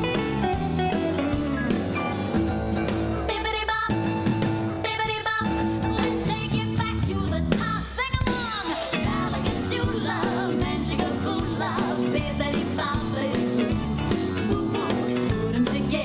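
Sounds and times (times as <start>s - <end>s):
song with vocals and beat: 3.1s - 16.0s.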